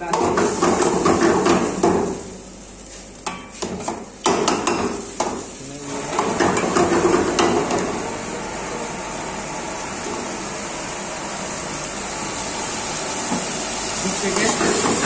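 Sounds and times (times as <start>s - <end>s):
curry sizzling: 0.0s - 15.0s.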